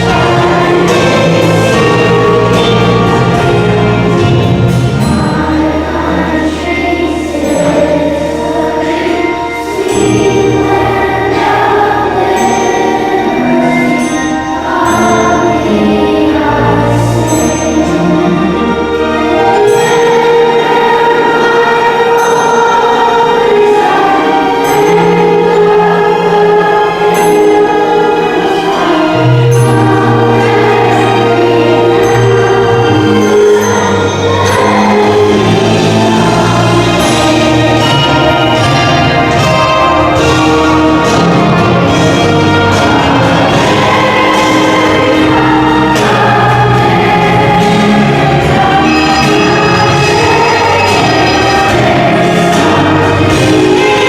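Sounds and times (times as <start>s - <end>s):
choir singing with orchestra: 0.0s - 54.0s.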